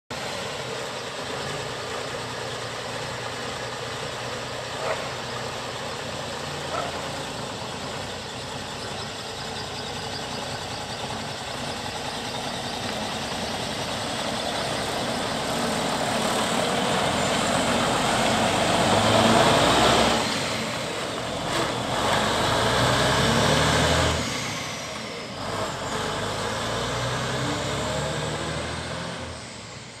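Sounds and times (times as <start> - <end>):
truck diesel engine pulling away: 0.1 - 30.0.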